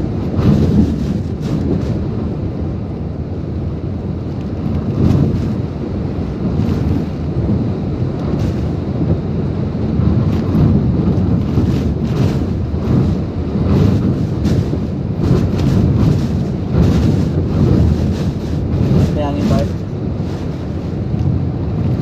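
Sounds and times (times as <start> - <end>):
strong wind gusting: 0.0 - 22.0
wind rumble on microphone: 0.0 - 22.0.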